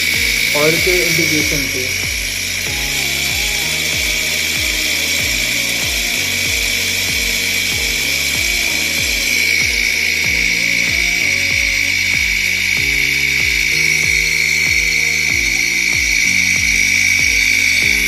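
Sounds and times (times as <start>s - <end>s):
background music with steady beat: 0.0s - 18.0s
gear pump motor whine: 0.0s - 18.0s.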